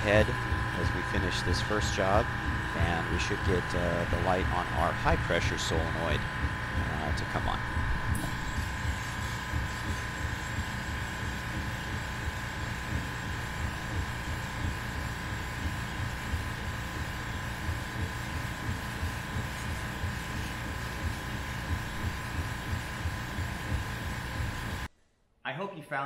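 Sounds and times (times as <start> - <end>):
laser engraver humming and whining: 0.0 - 24.9.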